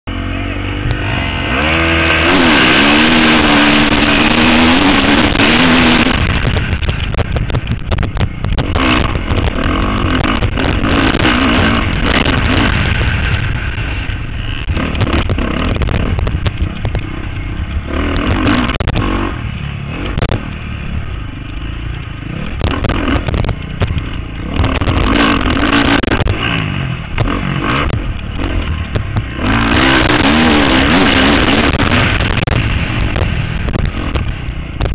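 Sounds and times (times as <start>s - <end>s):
motocross bike engine revving: 0.0s - 34.9s
low rumble: 0.1s - 34.9s.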